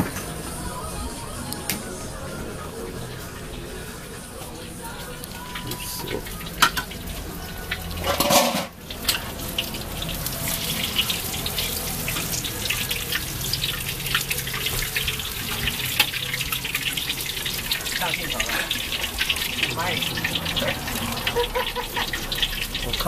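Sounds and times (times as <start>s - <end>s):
food deep-frying in hot oil: 2.5s - 23.0s.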